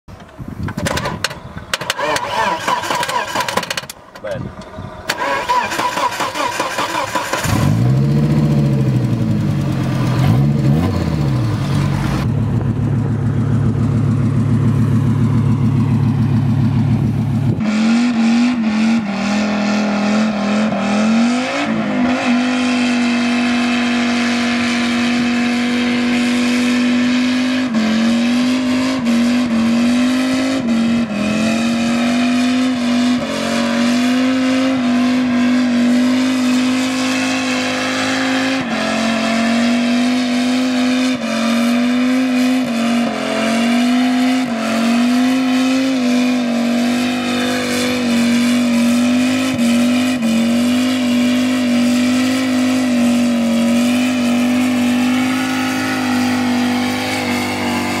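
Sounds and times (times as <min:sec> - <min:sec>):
car engine revving: 0:00.8 - 0:58.0.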